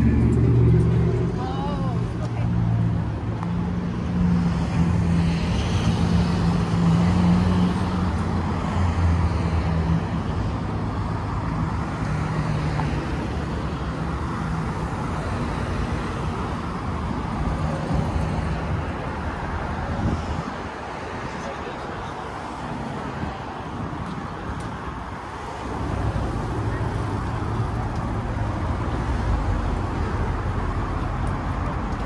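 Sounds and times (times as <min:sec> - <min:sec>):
road noise from passing cars: 0:00.0 - 0:32.0.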